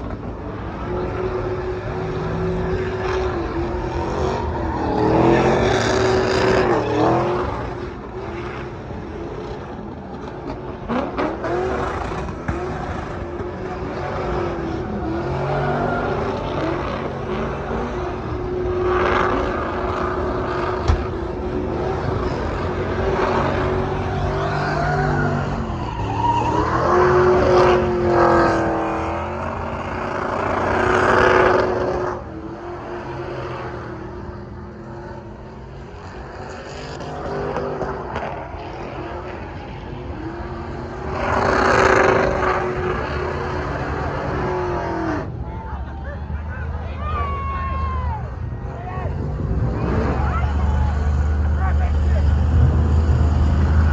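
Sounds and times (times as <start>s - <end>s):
vehicle engines revving: 0.0s - 53.9s.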